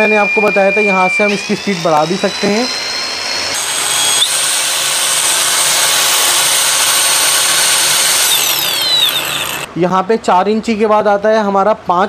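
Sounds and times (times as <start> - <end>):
angle grinder whining: 0.0 - 9.7.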